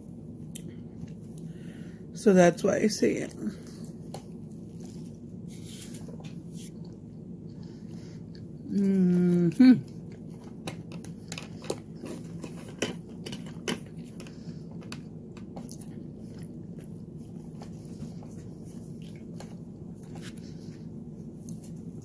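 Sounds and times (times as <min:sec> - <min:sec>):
person chewing food: 0:03.8 - 0:22.0.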